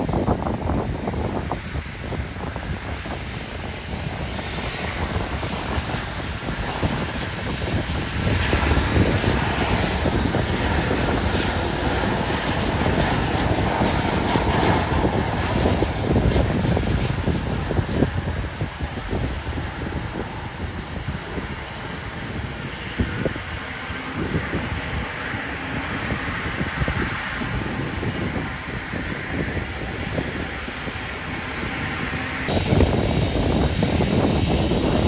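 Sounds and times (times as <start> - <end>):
jet engines running: 0.0 - 35.0
wind buffeting microphone: 0.0 - 35.0.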